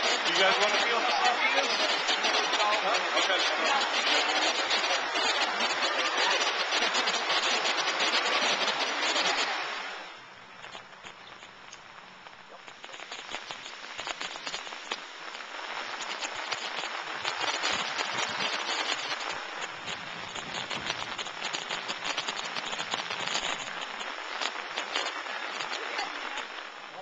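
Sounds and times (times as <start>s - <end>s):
rain pattering: 0.0s - 27.0s.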